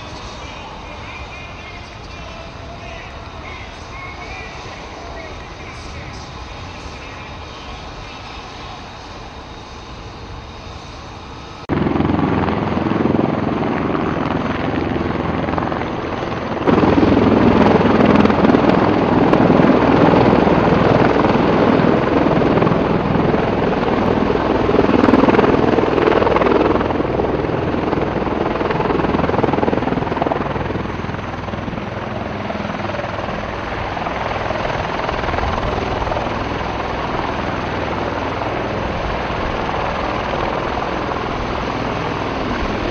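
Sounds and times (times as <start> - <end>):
aircraft engines rumbling drone: 0.0 - 42.9.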